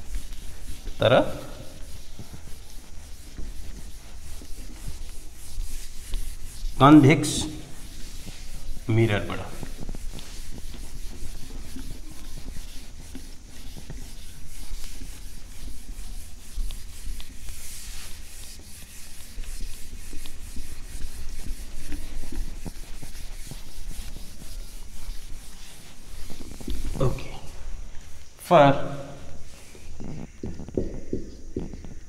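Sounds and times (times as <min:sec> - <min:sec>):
rubbing and scraping on board: 0:00.0 - 0:32.0.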